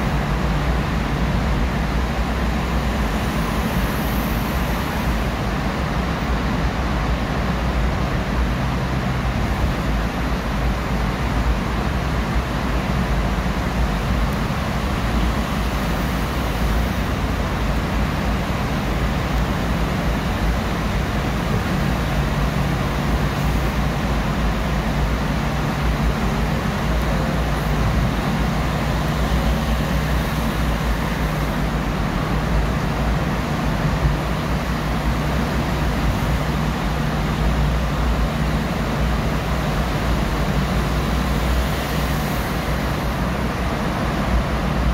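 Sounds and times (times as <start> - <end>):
car tyres and engine rumble: 0.0 - 44.9.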